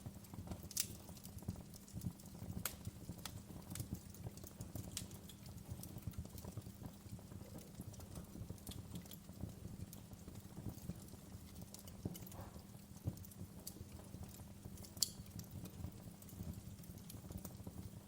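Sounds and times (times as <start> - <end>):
embers popping: 0.0 - 18.0
logs crackling in fire: 0.0 - 18.0.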